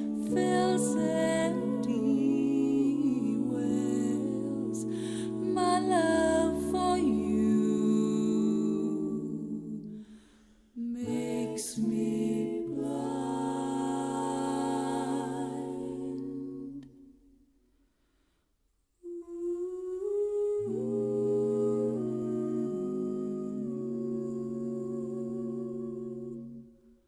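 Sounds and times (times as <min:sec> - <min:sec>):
hummed choir-like chords: 0:00.0 - 0:17.1, 0:19.0 - 0:27.0.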